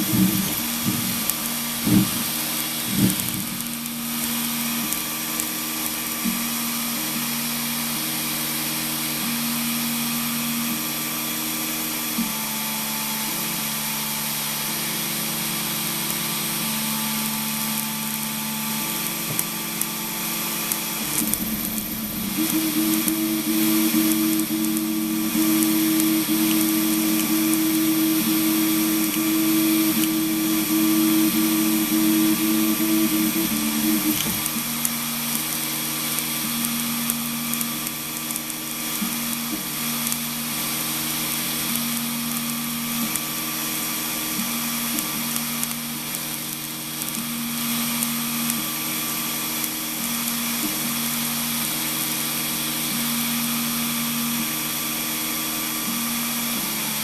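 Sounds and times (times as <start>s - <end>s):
cooling fans hissing: 0.0s - 57.0s
stepper motors whining: 0.0s - 57.0s.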